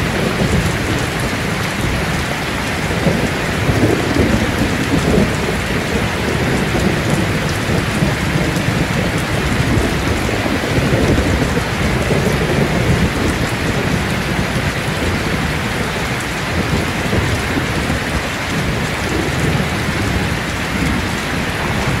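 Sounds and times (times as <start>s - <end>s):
heavy rain on a metal roof: 0.0s - 22.0s.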